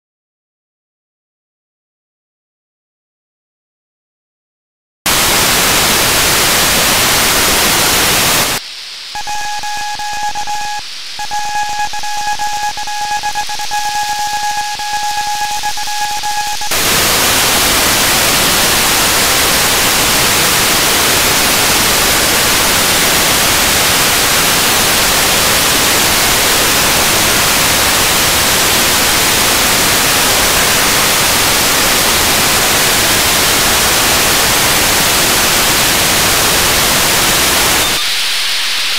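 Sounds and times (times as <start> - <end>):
radio static hiss: 5.1 - 38.9
steady high radio tone: 5.1 - 38.9.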